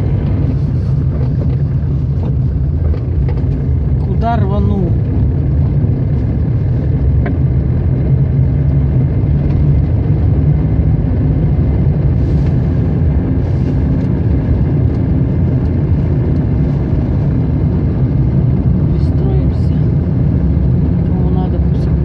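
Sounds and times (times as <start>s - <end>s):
car engine and tyre hum: 0.0s - 22.0s.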